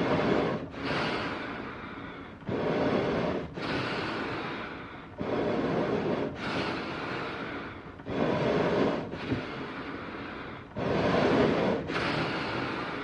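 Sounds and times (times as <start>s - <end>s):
animal breathing: 0.0s - 13.0s.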